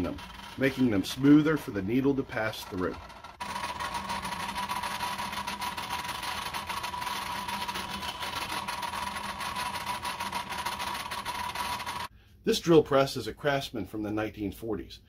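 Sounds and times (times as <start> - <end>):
drill press whining: 0.0 - 12.1.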